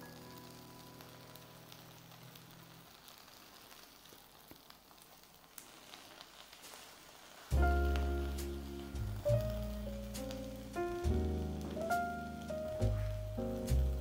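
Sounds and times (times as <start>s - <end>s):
frying pan sizzling: 0.0s - 14.0s.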